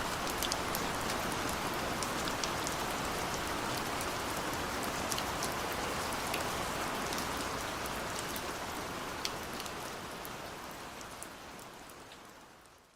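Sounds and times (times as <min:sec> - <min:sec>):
rain falling: 0:00.0 - 0:12.9
raindrops pattering on surface: 0:00.0 - 0:12.9.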